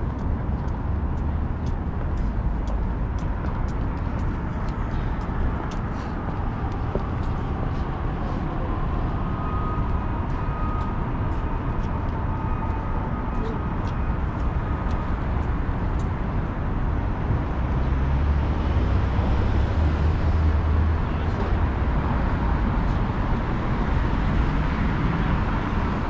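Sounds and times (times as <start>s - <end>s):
passing traffic rumble: 0.0s - 26.0s.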